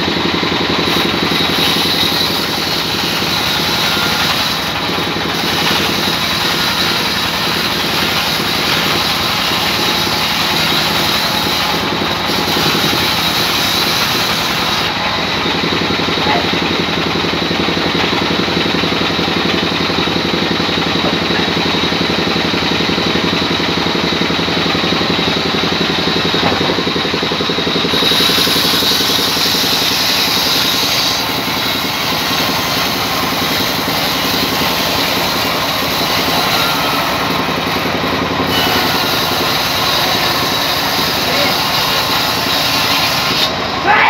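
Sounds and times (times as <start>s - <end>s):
band saw running: 0.0s - 44.0s.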